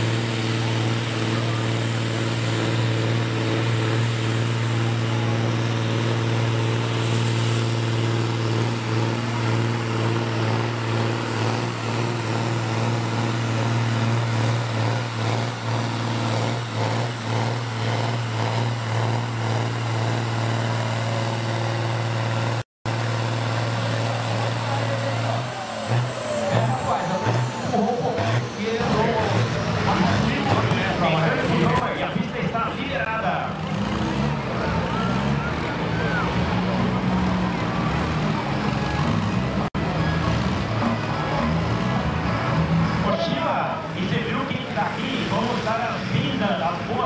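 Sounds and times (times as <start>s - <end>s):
tractor diesel engine at high revs: 0.0s - 47.0s.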